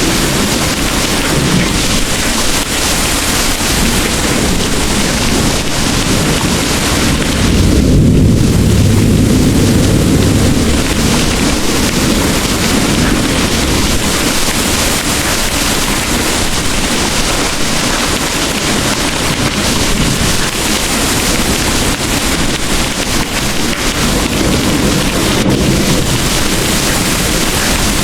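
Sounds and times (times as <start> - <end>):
distant thunder rumble: 0.0 - 28.0
heavy rain pouring: 0.0 - 28.0.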